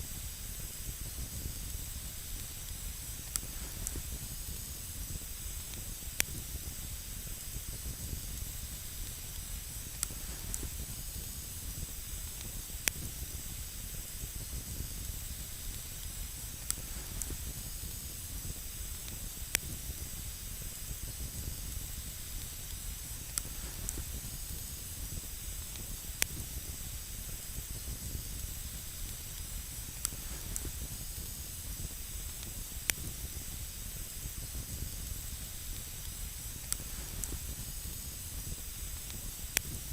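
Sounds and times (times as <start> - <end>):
campfire burning: 0.0 - 39.9
fire crackling and popping: 0.0 - 39.9.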